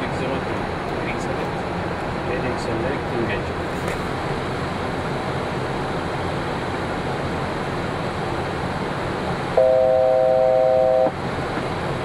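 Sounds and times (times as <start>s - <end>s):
cockpit airflow and ventilation noise: 0.0s - 12.0s.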